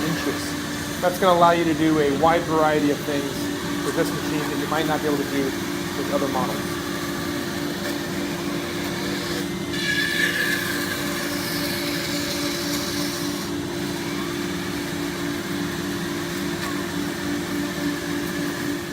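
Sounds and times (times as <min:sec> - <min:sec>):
router spindle humming: 0:00.0 - 0:18.9.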